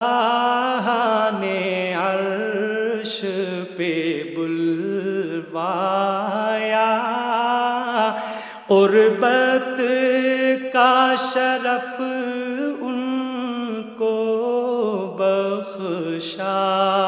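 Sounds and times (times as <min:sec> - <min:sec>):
person chanting a hymn: 0:00.0 - 0:17.0.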